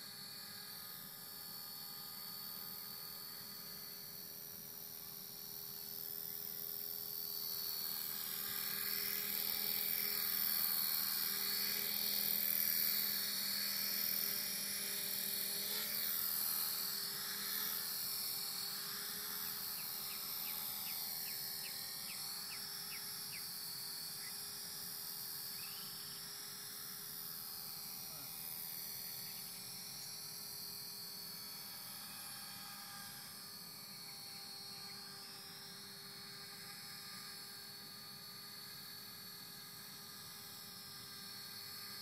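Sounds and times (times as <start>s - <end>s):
model helicopter motor whine: 0.0s - 42.0s.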